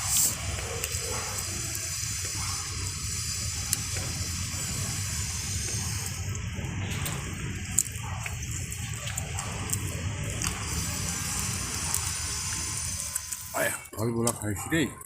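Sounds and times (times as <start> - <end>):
steady low rumble: 0.0 - 13.2
wet eating and chewing: 0.0 - 15.0.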